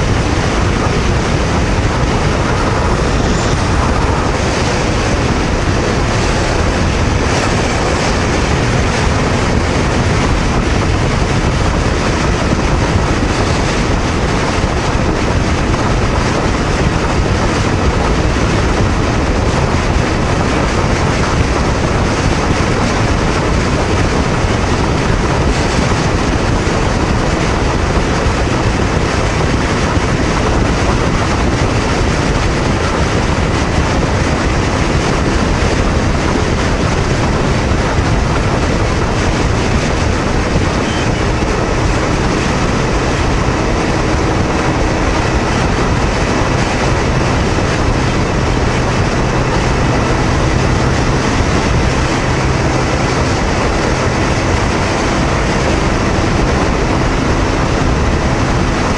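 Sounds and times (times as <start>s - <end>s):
motorcycle engine cruising: 0.0s - 58.9s
wind and road noise: 0.0s - 58.9s.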